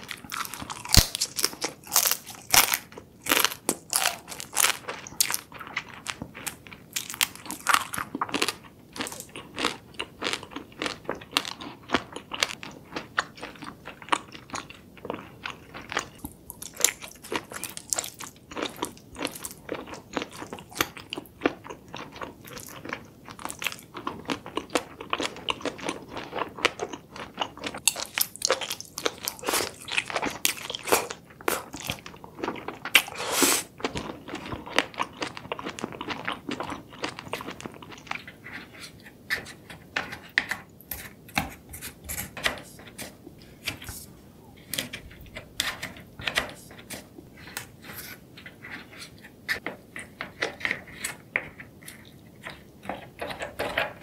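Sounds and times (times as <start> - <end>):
wet chewing and crunching: 0.0 - 41.2, 42.4 - 54.0.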